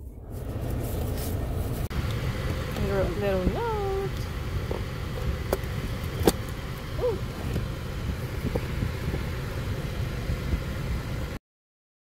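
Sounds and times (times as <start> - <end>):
car cabin rumble: 0.0 - 11.4.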